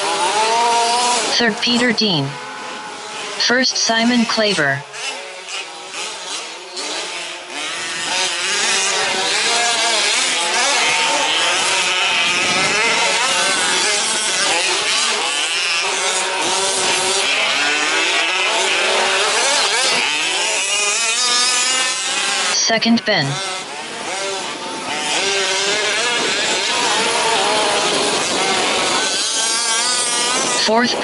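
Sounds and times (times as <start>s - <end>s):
small engines revving and racing: 0.0s - 31.0s.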